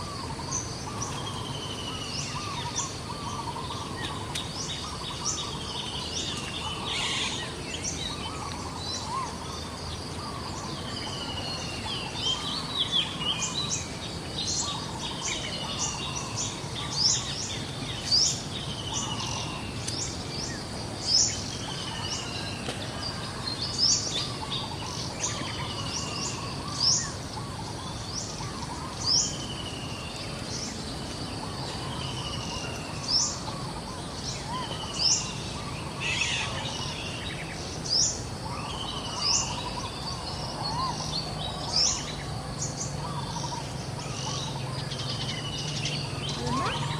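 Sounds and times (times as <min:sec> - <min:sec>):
birds chirping: 0:00.0 - 0:46.9
outdoor background hiss: 0:00.0 - 0:46.9.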